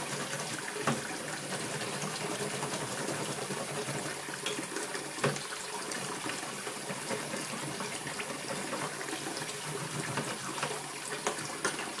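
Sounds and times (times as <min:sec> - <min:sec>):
tap water splashing into saucepan: 0:00.1 - 0:12.0.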